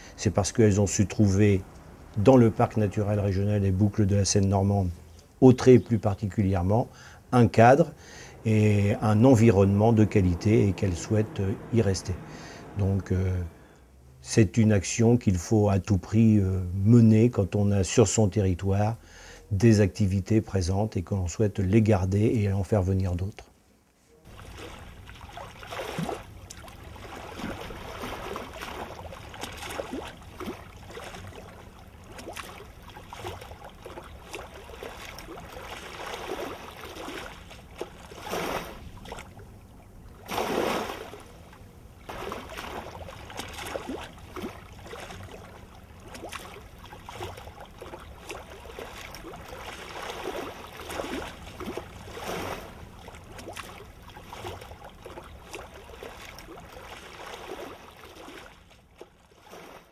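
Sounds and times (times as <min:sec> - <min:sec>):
small waves lapping and breaking: 0:00.0 - 0:14.4, 0:24.0 - 0:59.9.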